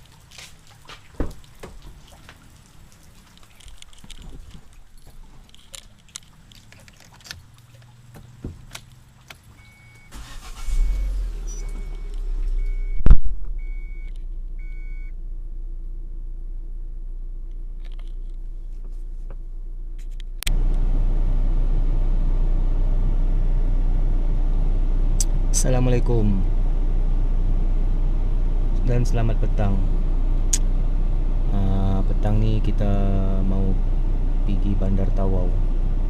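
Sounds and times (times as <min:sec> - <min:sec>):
car engine cranking and idling: 0:00.0 - 0:36.0.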